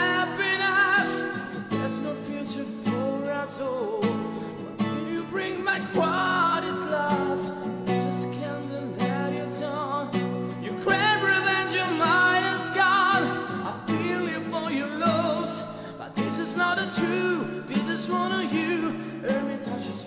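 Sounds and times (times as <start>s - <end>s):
acoustic guitar strumming: 0.0s - 20.0s
man singing: 0.0s - 20.0s.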